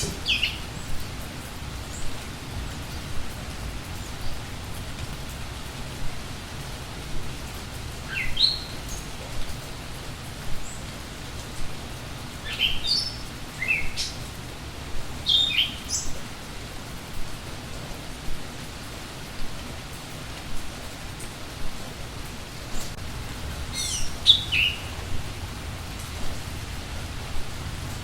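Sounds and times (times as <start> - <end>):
songbirds chirping: 0.0 - 28.0
steady rain: 0.0 - 28.0.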